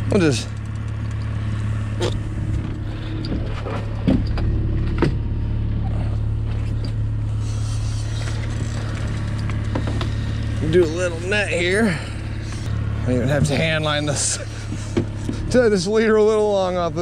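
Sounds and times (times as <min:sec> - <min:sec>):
outboard motor humming: 0:00.0 - 0:17.0.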